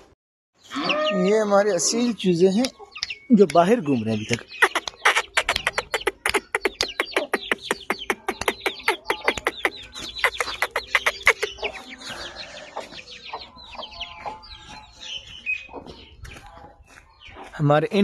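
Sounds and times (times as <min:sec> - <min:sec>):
chicks peeping: 0:00.6 - 0:18.0.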